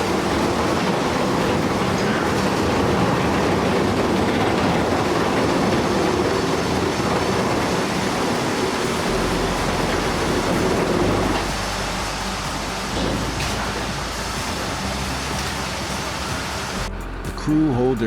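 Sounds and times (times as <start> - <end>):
heavy machinery rumble and clatter: 0.0 - 17.6.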